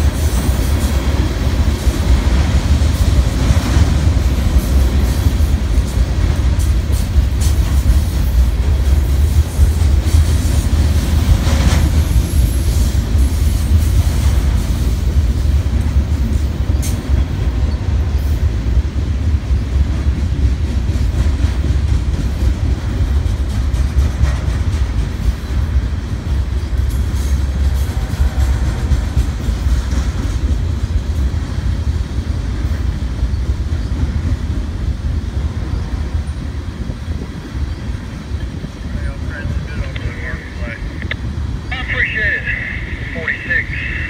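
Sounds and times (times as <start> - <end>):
freight train rumble and drone: 0.0 - 44.0.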